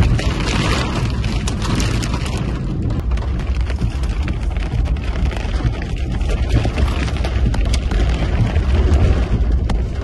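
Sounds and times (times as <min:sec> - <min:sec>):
rain ticking on vehicle: 0:00.0 - 0:10.0.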